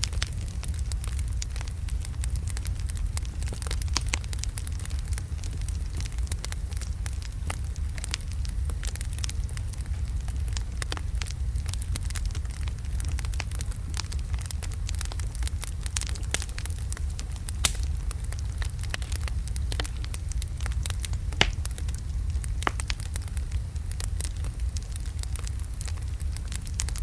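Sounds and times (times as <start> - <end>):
fire crackling and popping: 0.0 - 27.0
low roar of flames: 0.0 - 27.0.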